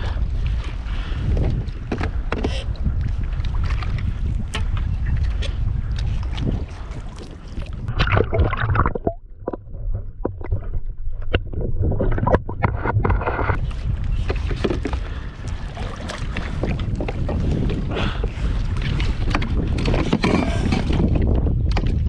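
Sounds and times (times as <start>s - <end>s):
water sloshing around kayak hull: 0.1s - 22.0s
low rumble: 2.8s - 22.0s.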